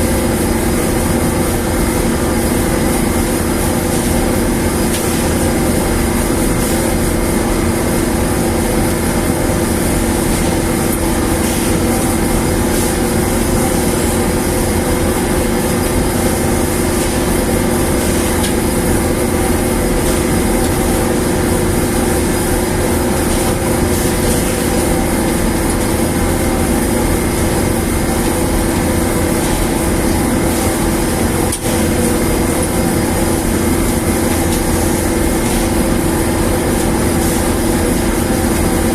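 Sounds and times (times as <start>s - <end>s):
dryer machine humming: 0.0s - 38.9s.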